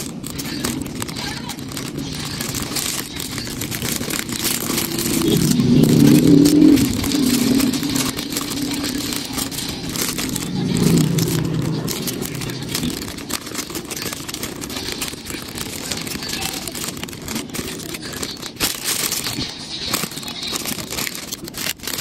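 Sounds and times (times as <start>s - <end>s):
low background rumble: 0.0s - 18.6s
cellophane bag crinkling: 0.0s - 22.0s.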